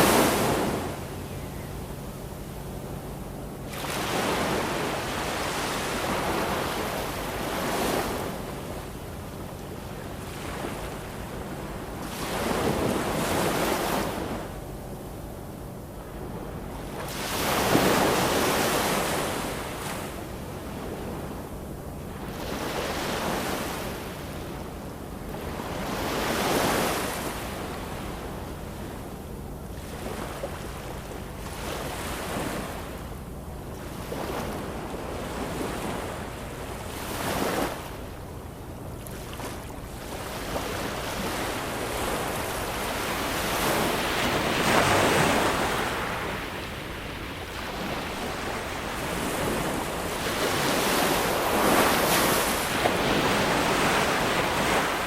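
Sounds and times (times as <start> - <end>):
ocean waves breaking: 0.0 - 1.2, 2.0 - 14.7, 16.0 - 21.4, 29.7 - 55.0.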